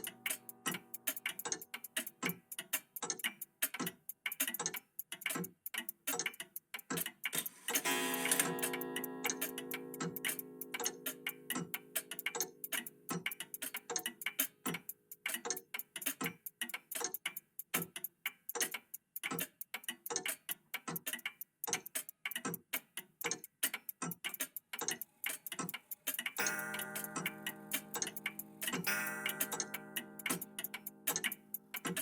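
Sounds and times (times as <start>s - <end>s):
mechanical clocks ticking: 0.0s - 32.0s.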